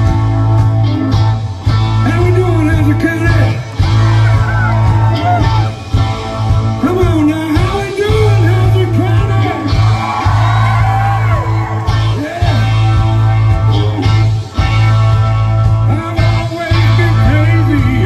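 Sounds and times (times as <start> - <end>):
bass guitar: 0.0 - 18.0
drums: 0.0 - 18.0
electric guitar: 0.0 - 18.0.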